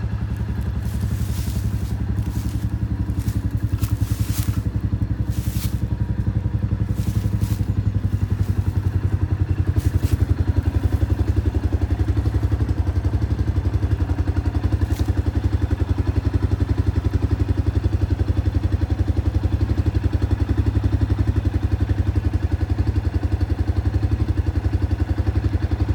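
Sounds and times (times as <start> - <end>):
vehicle engine running steadily: 0.0 - 25.9.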